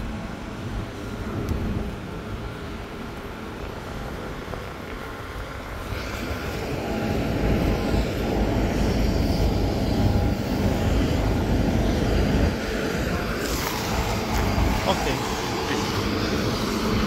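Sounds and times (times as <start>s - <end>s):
jet airliner rumble with whine: 0.0s - 17.0s.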